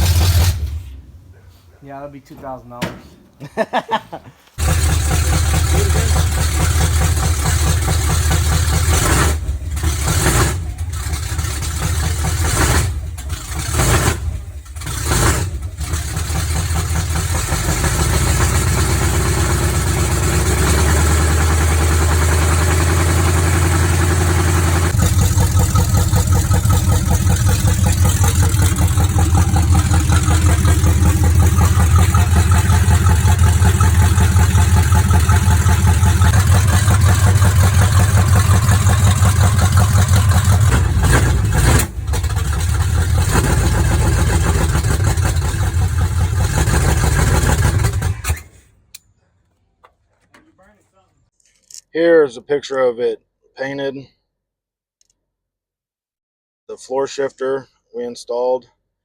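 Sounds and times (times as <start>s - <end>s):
truck engine idling: 0.0s - 48.4s.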